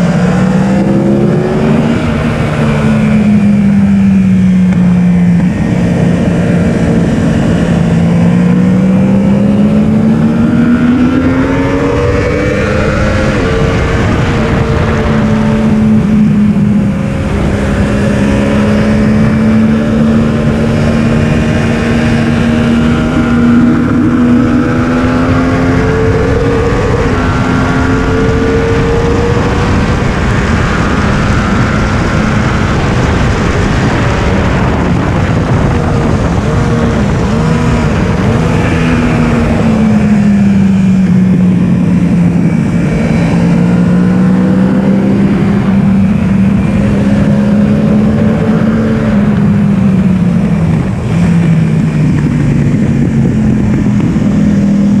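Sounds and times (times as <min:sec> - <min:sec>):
motorcycle engine revving high: 0:00.0 - 0:55.0
wind rush: 0:00.0 - 0:55.0.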